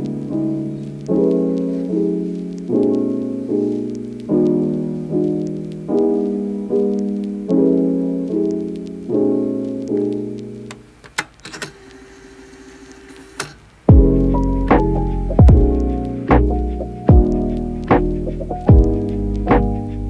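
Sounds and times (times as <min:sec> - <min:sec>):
soft piano chords: 0:00.0 - 0:10.9, 0:13.9 - 0:20.0.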